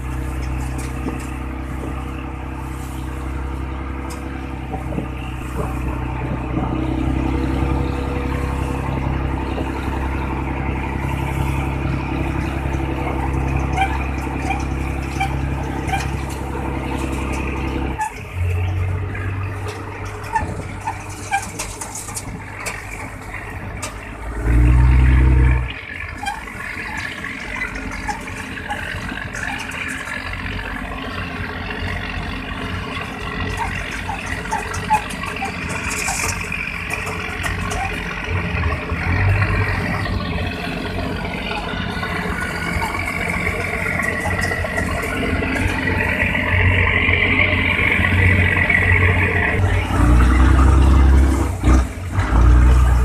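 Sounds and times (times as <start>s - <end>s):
churning water: 0.0s - 53.0s
diesel engine droning: 0.0s - 53.0s.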